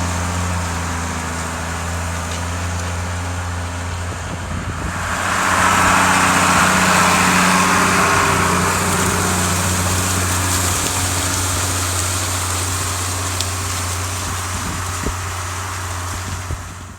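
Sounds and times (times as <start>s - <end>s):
tractor diesel engine under load: 0.0s - 16.9s.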